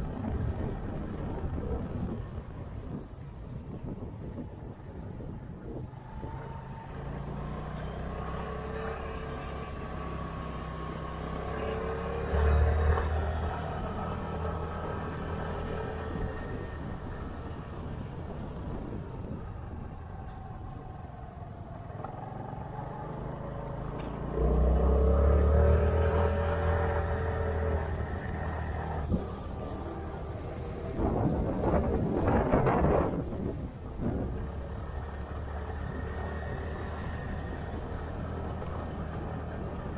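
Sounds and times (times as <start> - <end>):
vehicle engine hum: 0.0 - 39.9.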